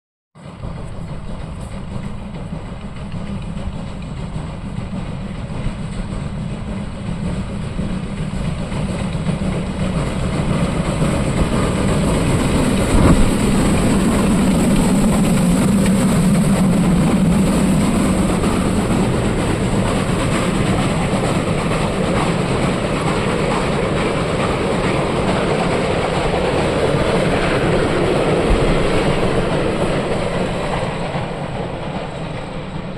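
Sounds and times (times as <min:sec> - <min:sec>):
train running on rails: 0:00.4 - 0:32.9.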